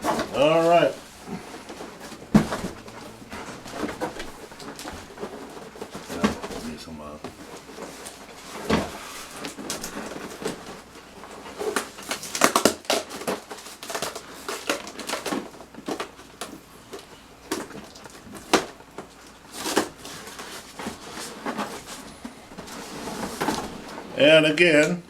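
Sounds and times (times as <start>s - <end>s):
cardboard and packing rustling: 0.0s - 25.0s.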